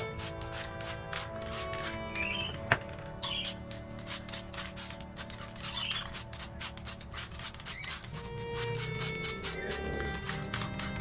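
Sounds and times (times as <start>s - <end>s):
background music with ticking beat: 0.0s - 11.0s.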